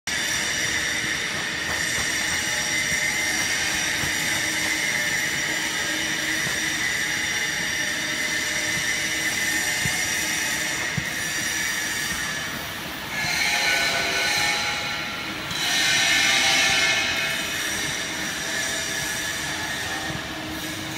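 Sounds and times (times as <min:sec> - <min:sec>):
high machine whine: 0:00.1 - 0:20.9
hot press machinery running: 0:00.1 - 0:20.9.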